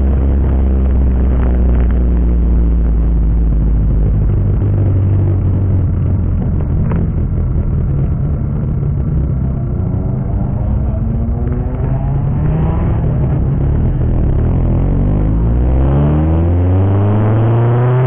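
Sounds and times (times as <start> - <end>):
car engine droning inside cabin: 0.0 - 18.0.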